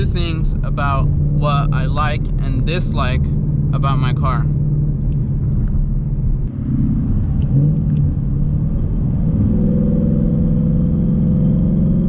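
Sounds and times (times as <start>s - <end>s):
car engine and exhaust: 0.0s - 12.0s.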